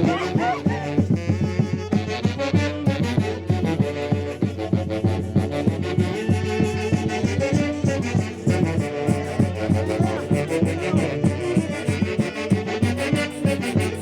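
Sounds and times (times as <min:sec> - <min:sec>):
band playing festival music: 0:00.0 - 0:14.0
steady drum beat: 0:00.0 - 0:14.0
wind instruments: 0:00.0 - 0:14.0.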